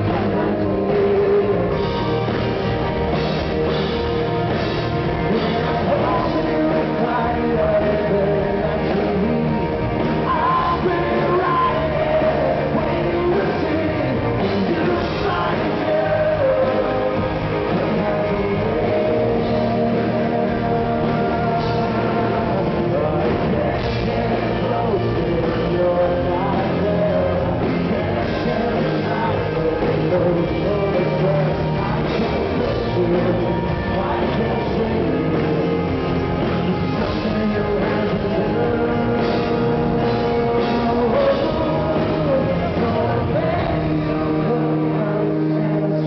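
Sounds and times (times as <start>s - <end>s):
man singing: 0.0s - 46.0s
rock band playing live: 0.0s - 46.0s.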